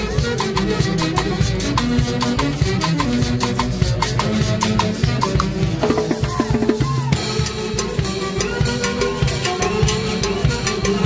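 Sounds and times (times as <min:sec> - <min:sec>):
driving drum beat: 0:00.0 - 0:11.0.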